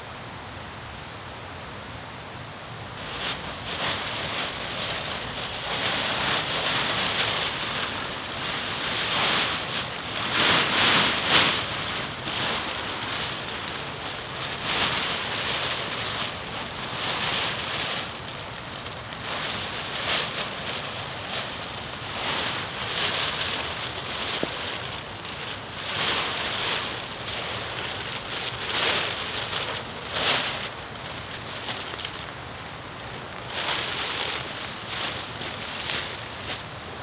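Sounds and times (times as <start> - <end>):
fabric rustling and swishing: 3.0 - 37.0.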